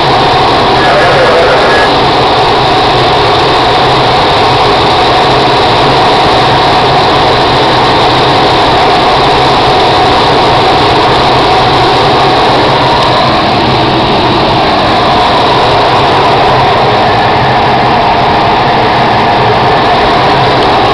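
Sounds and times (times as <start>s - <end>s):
light plane engine drone: 0.0s - 20.9s
rush of air in cockpit: 0.0s - 20.9s.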